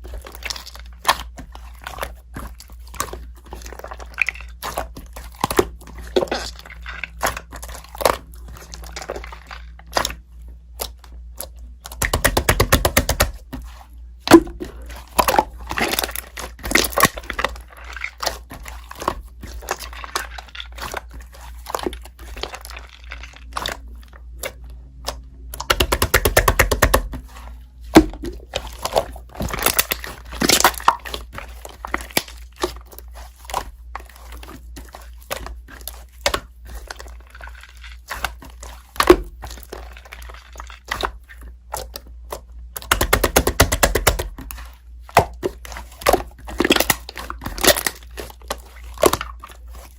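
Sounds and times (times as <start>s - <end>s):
slime squished by hand: 0.0s - 49.9s.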